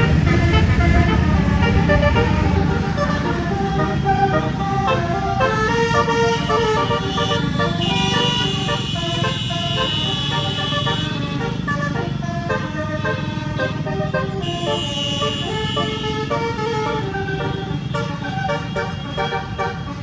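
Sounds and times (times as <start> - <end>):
engine and road rumble: 0.0 - 20.0
musical air horn tune: 0.0 - 20.0.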